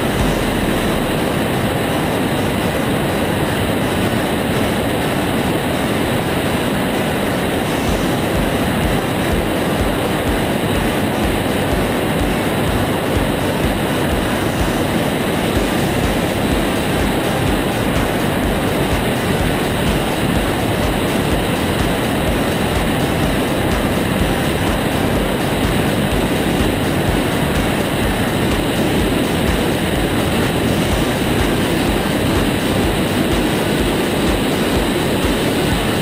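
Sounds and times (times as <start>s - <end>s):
low throbbing: 0.0s - 4.6s, 7.4s - 36.0s
aircraft engine and propeller drone: 0.0s - 36.0s.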